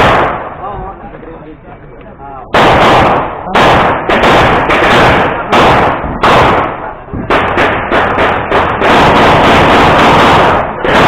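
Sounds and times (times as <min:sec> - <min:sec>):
gunshots ringing: 0:00.0 - 0:00.7, 0:02.5 - 0:11.0.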